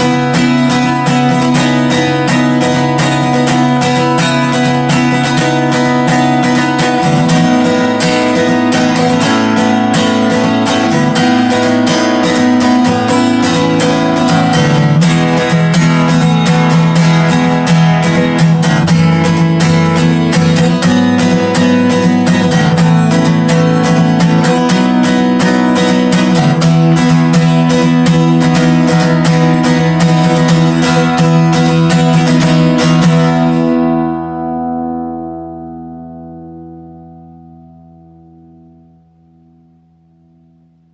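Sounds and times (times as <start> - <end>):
acoustic guitar strumming chords: 0.0 - 40.9.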